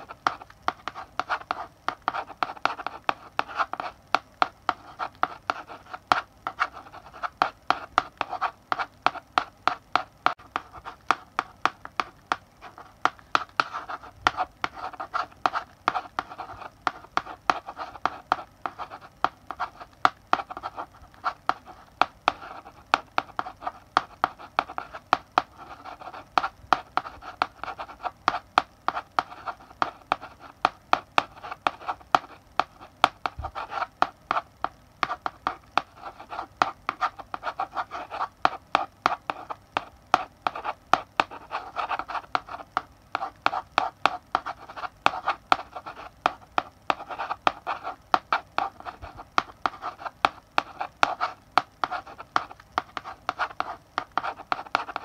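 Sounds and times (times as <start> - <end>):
chalk scratching on blackboard: 0.0 - 55.0
chalk tapping on blackboard: 0.0 - 55.0.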